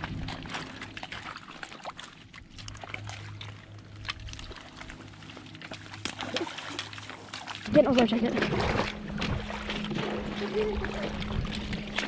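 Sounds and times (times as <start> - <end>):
faint water sounds: 0.0 - 12.0
low steady hum: 0.0 - 12.0.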